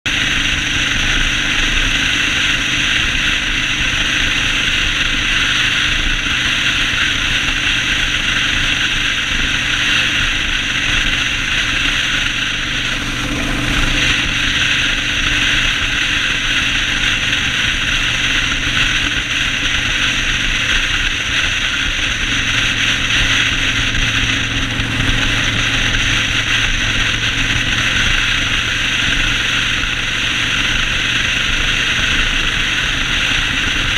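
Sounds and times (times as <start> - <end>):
motorcycle engine running: 0.0 - 33.9
strong rushing noise: 0.1 - 33.9.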